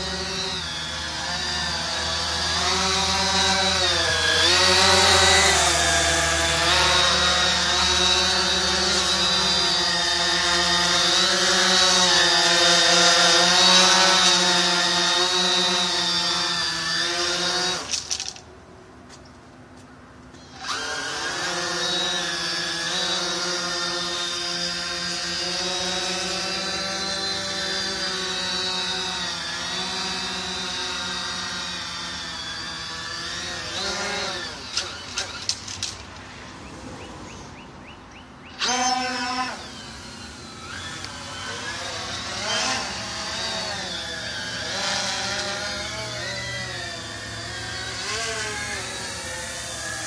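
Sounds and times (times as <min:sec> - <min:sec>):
drone motors and propellers whining: 0:00.0 - 0:18.5, 0:20.3 - 0:50.0.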